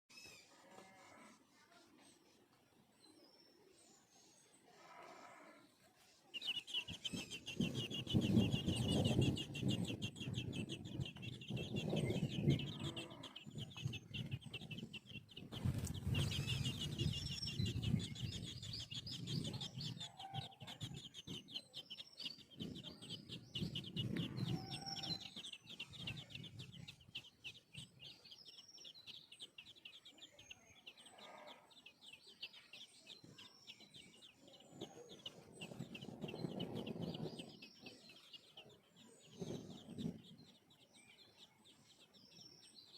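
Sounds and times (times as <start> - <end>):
baby birds chirping: 0.1 - 5.0, 5.8 - 42.9.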